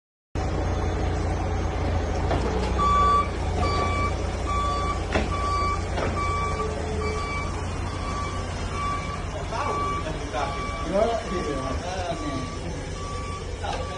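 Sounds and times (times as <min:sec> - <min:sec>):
electronic beeping: 0:00.4 - 0:13.9.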